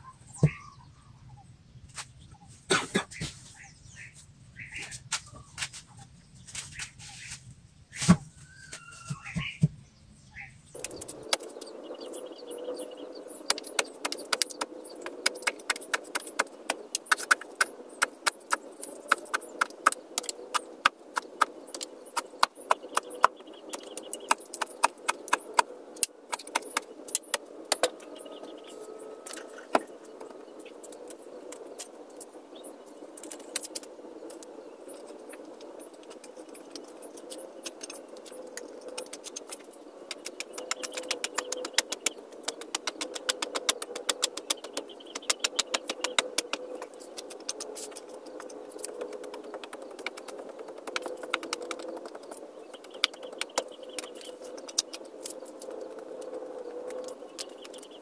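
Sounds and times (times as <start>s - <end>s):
low hum: 9.3s - 58.0s.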